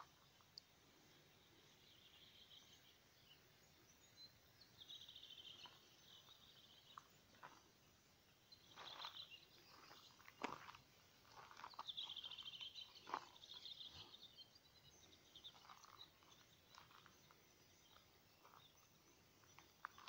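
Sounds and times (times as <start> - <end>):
small birds calling: 0.0 - 20.0.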